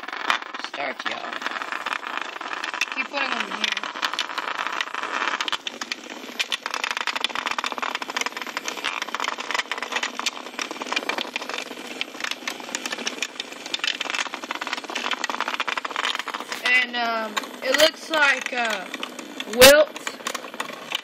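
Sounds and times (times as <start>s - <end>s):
vibrating toys rattling on plastic: 0.0s - 21.0s.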